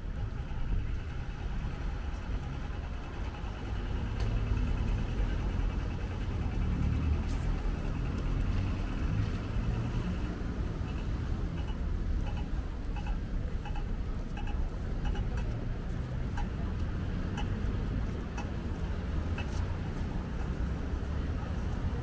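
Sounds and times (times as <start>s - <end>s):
faint rapid ticking: 0.0s - 22.0s
passing cars rumble: 0.0s - 22.0s.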